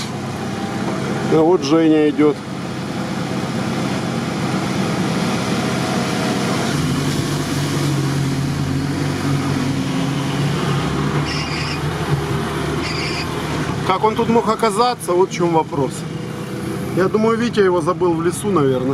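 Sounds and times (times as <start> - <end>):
off-road vehicle engine running: 0.0 - 18.9.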